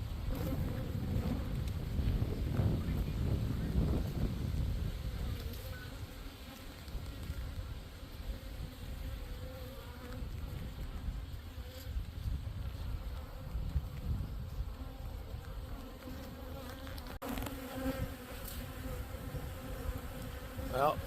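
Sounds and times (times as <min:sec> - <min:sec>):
bees buzzing: 0:00.0 - 0:12.1, 0:12.7 - 0:21.0.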